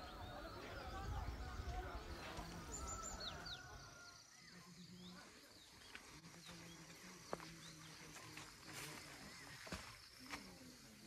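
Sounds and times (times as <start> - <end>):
bird chirps: 0.0 - 10.7.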